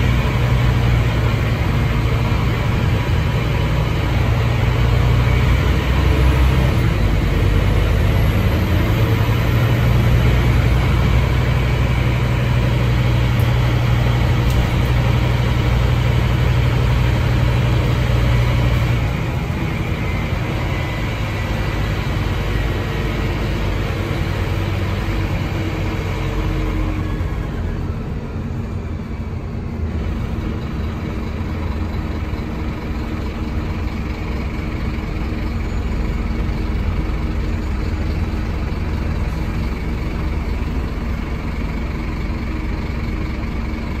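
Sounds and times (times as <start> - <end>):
bus engine drone: 0.0 - 44.0
road and body noise: 0.0 - 44.0.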